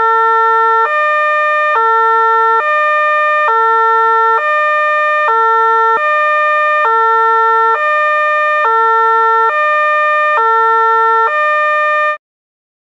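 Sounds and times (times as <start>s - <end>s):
two-tone fire engine siren: 0.0s - 12.2s.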